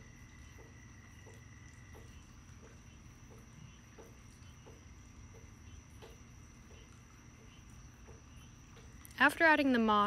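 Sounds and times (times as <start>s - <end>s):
soft regular ticks: 0.0s - 9.4s.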